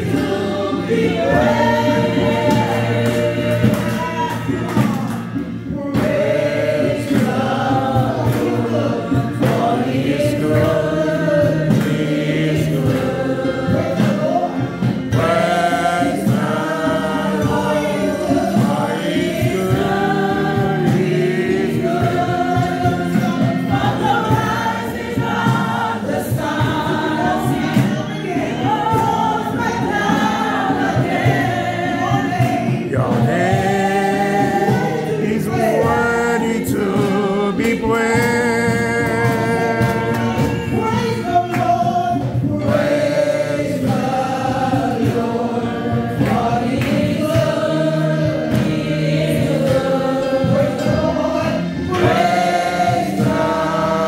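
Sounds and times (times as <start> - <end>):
congregation singing: 0.0 - 54.0.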